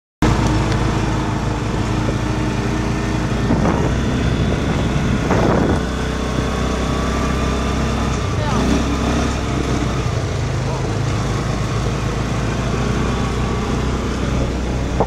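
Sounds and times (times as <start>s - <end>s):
quad bike engine running: 0.2s - 15.0s
road noise on gravel: 0.2s - 15.0s.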